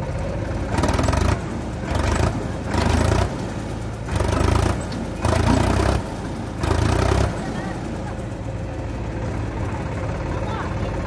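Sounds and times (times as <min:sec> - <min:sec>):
tractor engine revving: 0:00.0 - 0:11.0.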